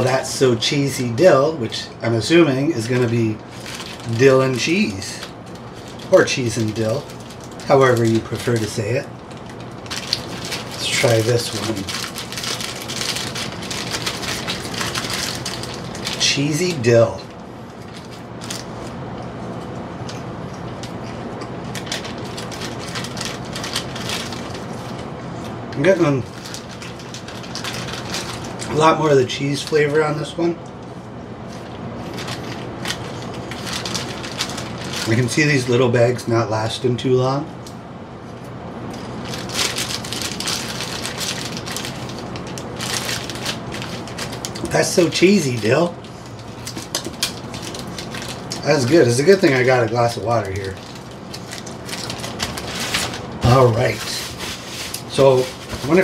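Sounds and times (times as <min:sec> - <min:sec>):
plastic bag crinkling: 0:02.5 - 0:19.0, 0:21.7 - 0:25.0, 0:25.8 - 0:30.1, 0:31.4 - 0:35.7, 0:39.0 - 0:56.0
popcorn being chewed: 0:02.7 - 0:30.0, 0:30.6 - 0:35.4, 0:38.8 - 0:56.0.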